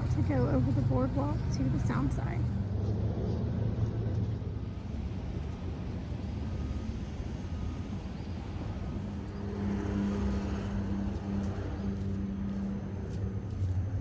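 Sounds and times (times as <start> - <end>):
engine hum: 0.0 - 14.0
traffic rumble: 0.0 - 14.0.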